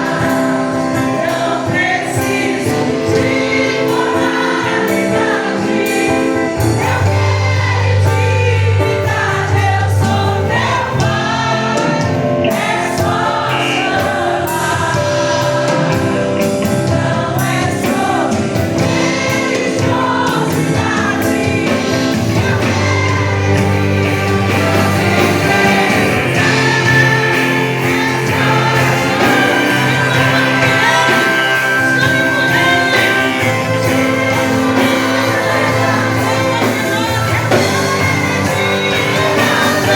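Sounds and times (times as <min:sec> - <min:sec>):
choir singing gospel: 0:00.0 - 0:39.9
instrumental backing with bass: 0:00.0 - 0:39.9.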